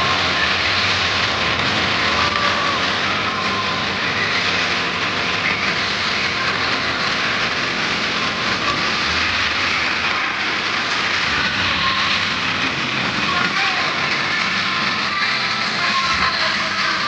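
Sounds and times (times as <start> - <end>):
stadium crowd: 0.0 - 17.0.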